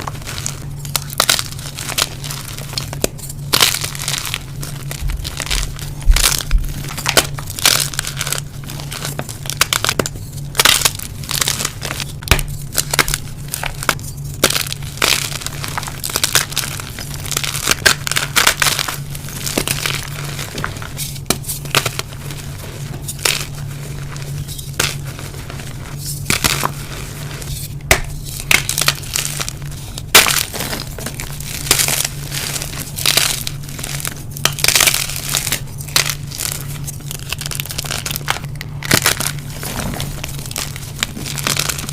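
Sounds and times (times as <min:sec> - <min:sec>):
chalk blocks being crushed: 0:00.0 - 0:41.9.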